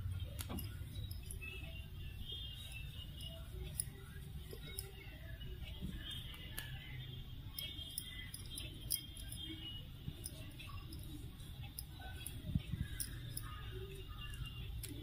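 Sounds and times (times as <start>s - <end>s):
low room rumble: 0.0s - 15.0s.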